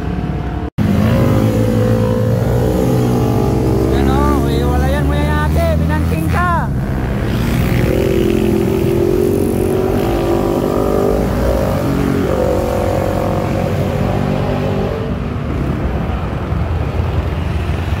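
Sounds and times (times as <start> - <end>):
motorcycle engines passing: 0.0 - 18.0.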